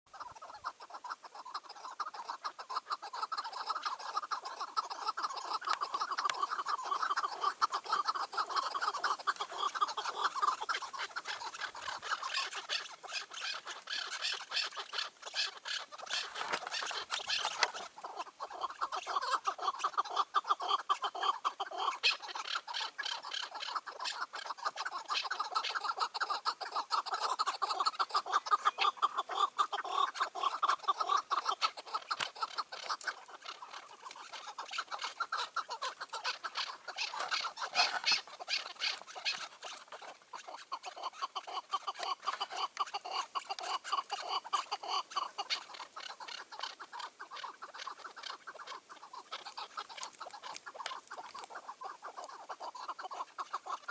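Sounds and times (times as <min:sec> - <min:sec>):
partridges calling: 0:00.1 - 0:53.9.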